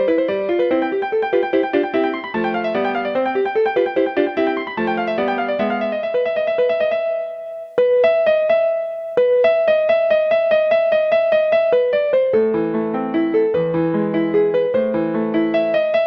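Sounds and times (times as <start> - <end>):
electronic keyboard piano piece: 0.0 - 16.0.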